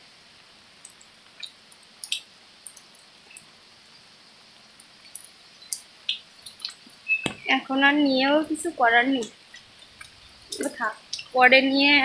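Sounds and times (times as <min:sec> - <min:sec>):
light rain hiss: 0:00.0 - 0:12.0
raindrop ticks: 0:00.8 - 0:04.0, 0:04.7 - 0:12.0.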